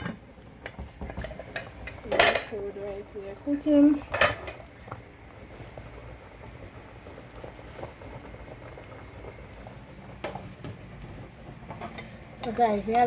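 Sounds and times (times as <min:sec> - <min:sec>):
pot of food simmering: 0:00.0 - 0:13.0.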